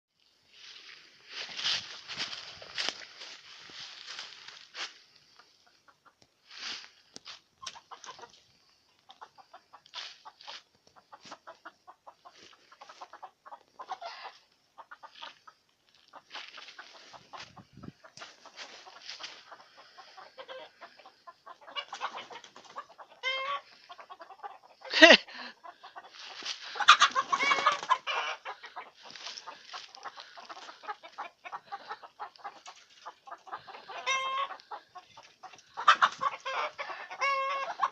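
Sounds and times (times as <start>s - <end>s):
chickens clucking: 0.5s - 37.9s
chickens flurry: 0.5s - 37.9s.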